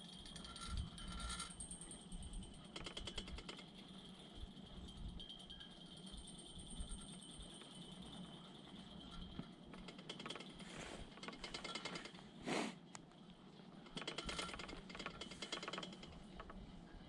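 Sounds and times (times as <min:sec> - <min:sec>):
chairlift ticking and rattling: 0:00.0 - 0:12.2, 0:13.9 - 0:16.6.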